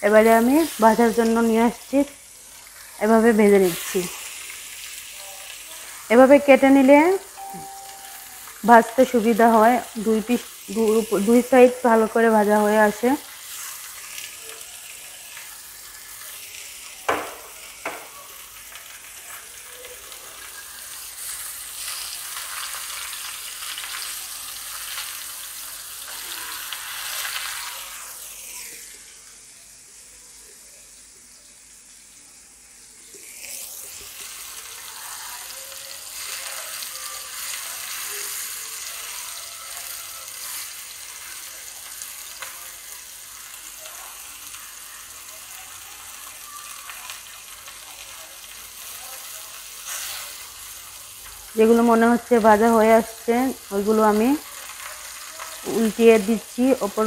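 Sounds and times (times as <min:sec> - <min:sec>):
chicken sizzling on griddle: 0:00.0 - 0:57.0.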